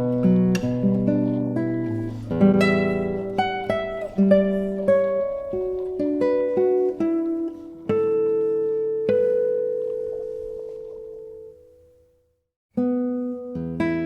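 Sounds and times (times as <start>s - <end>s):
classical guitar plucked melody: 0.0s - 14.0s.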